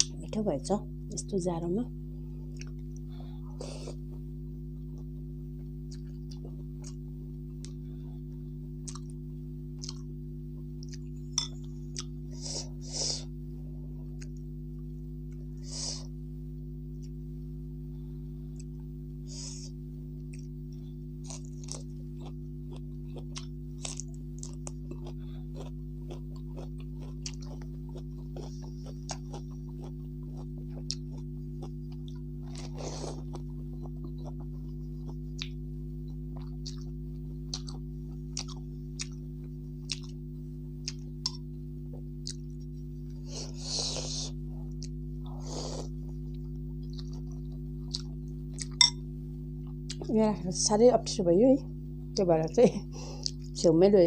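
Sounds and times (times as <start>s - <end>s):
low hum: 0.0s - 54.0s
person chewing and crunching food: 2.3s - 4.2s, 4.8s - 16.1s, 16.9s - 17.3s, 18.5s - 50.2s, 53.1s - 53.6s.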